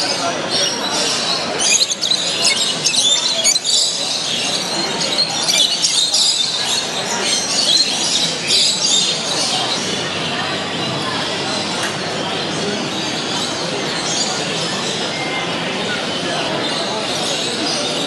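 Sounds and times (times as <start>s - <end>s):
cage birds chirping and twittering: 0.0s - 18.0s.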